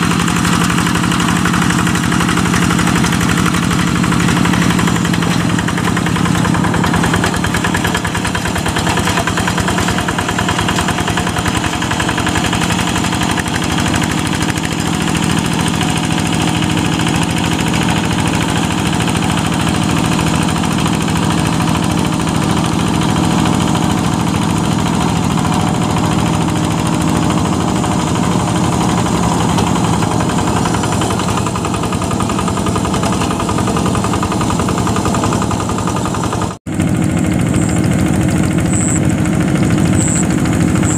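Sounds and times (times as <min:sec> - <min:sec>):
diesel engine knocking: 0:00.0 - 0:40.9.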